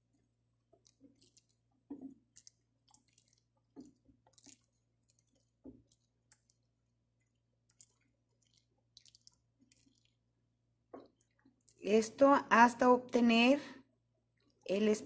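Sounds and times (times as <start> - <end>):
wooden spoon stirring in a pot: 0.0 - 12.1.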